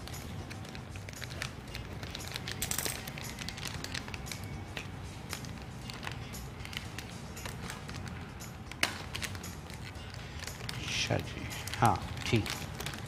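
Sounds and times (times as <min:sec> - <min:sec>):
plastic packet crinkling: 0:00.0 - 0:13.0.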